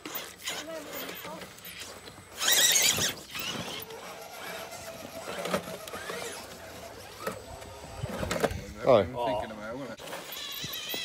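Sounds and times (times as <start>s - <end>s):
electric motor whining: 0.0s - 8.9s, 10.0s - 11.0s.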